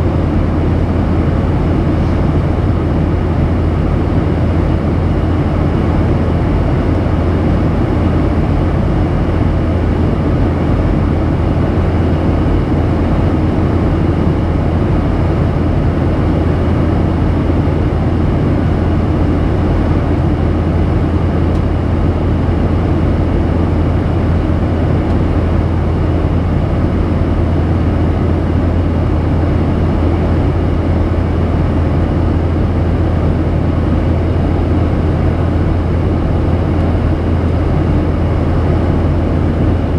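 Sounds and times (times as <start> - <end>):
jet engine drone in cabin: 0.0 - 39.9
strong low hum: 0.0 - 39.9.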